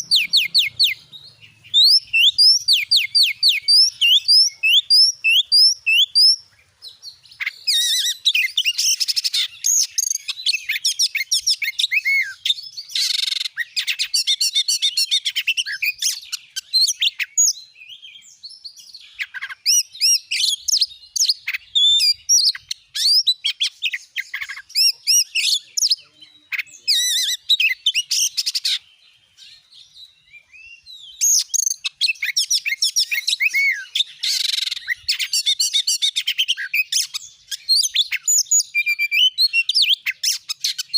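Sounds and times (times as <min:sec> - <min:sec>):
songbird whistles and chirps: 0:00.0 - 0:40.9.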